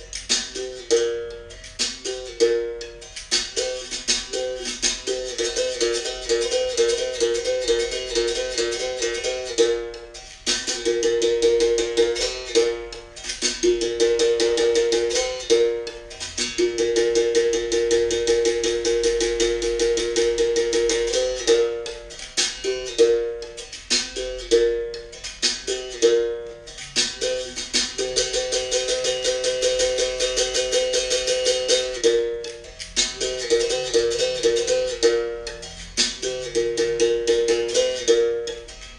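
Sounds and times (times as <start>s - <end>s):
berimbau strikes: 0.0s - 38.9s.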